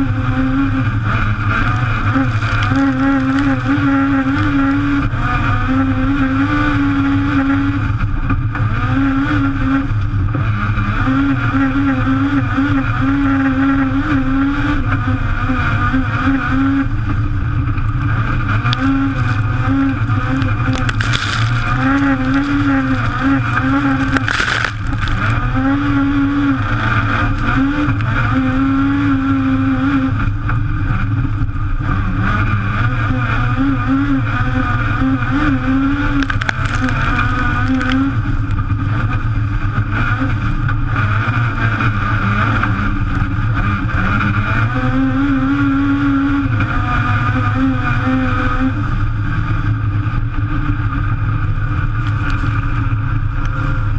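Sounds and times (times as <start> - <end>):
car rumble on rough track: 0.0 - 53.9
race car engine revving: 0.0 - 53.9.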